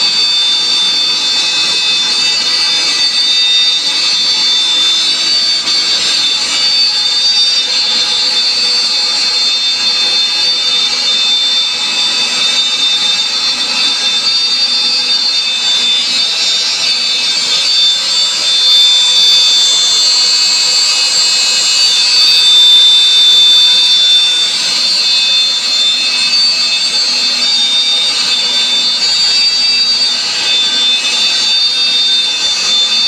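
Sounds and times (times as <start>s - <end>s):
bit cutting through plywood: 0.0s - 33.0s
router spindle whining: 0.0s - 33.0s.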